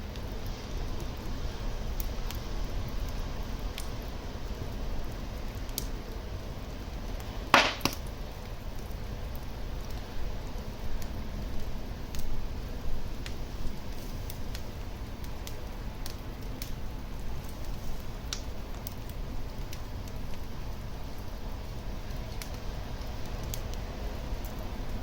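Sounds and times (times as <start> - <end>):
fire crackles and pops: 0.0 - 25.0
fire flames rumbling and hissing: 0.0 - 25.0.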